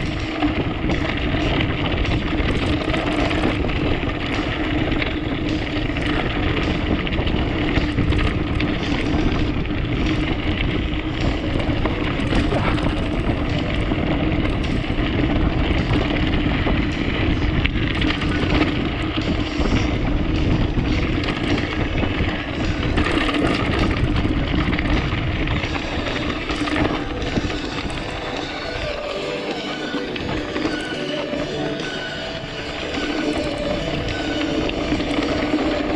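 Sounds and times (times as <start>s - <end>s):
bike rattling over dirt: 0.0s - 35.9s
wind rush on microphone: 0.0s - 35.9s.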